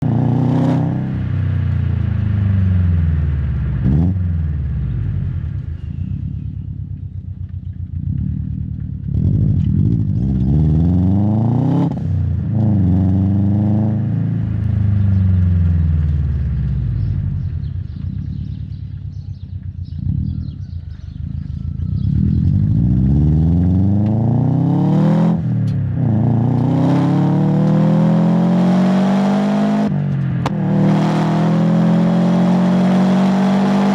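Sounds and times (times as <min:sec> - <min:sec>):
car exhaust revving: 0:00.0 - 0:33.9.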